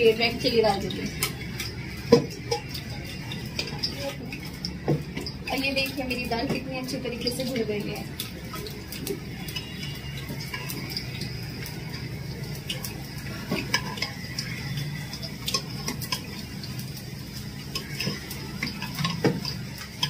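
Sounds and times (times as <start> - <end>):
metal ladle stirring thick dal: 0.0 - 20.0.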